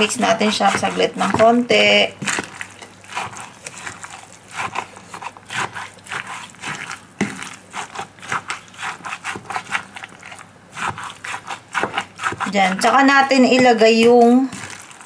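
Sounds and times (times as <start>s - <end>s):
spatula scraping glass bowl: 0.0s - 15.0s.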